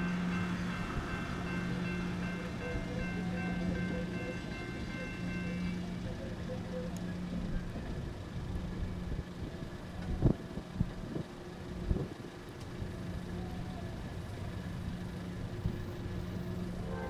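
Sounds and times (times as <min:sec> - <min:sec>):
diesel locomotive drone: 0:00.0 - 0:17.0.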